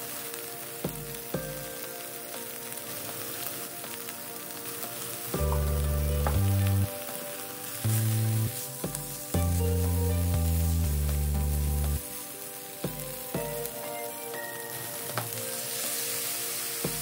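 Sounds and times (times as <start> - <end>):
background music with low notes: 0.0 - 17.0
food sizzling in a frying pan: 0.0 - 17.0.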